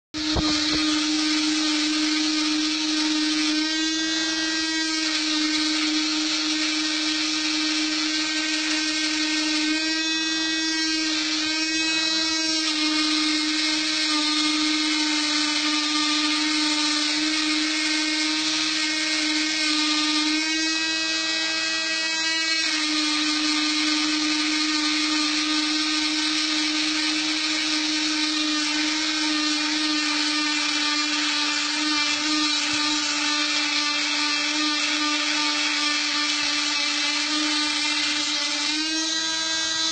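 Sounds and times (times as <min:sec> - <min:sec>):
stepper motor tones: 0:00.2 - 0:33.6
spindle motor whine: 0:00.2 - 0:39.9.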